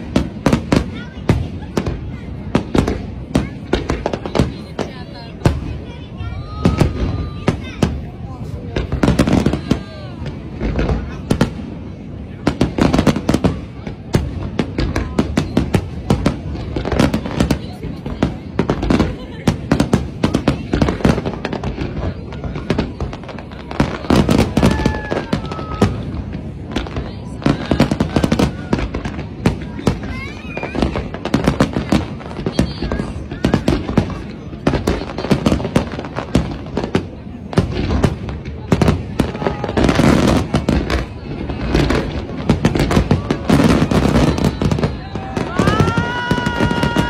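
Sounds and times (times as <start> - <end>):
fireworks bursting: 0.0 - 47.0
people's voices: 0.0 - 47.0.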